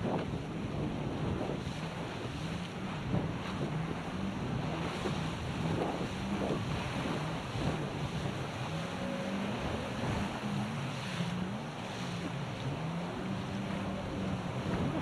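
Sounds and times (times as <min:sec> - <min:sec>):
motorboat engine droning: 0:00.0 - 0:15.0
wind buffeting microphone: 0:00.0 - 0:15.0.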